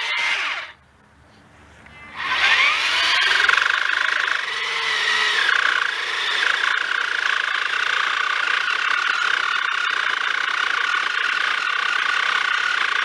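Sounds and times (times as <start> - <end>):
pole saw cutting wood: 0.0 - 0.8, 1.8 - 13.0.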